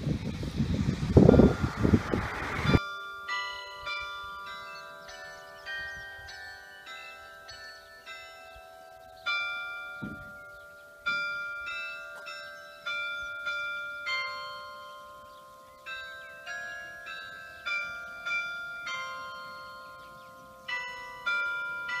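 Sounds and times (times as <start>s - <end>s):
church bells ringing: 2.7s - 22.0s.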